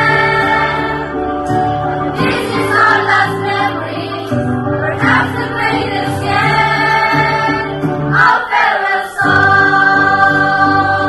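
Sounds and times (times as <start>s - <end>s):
children's choir singing: 0.0s - 11.0s
music: 0.0s - 11.0s.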